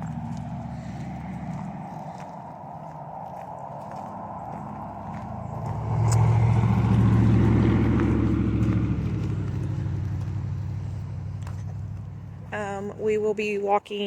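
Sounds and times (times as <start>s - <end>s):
vehicle engine rumble passing: 0.0s - 13.6s.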